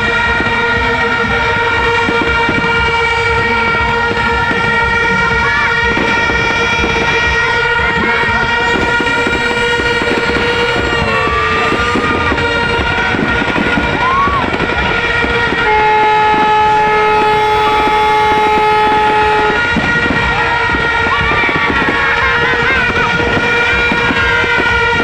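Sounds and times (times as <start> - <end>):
firecrackers crackling: 0.0 - 25.0
horns held long and steady: 0.0 - 25.0
low horn: 0.0 - 25.0.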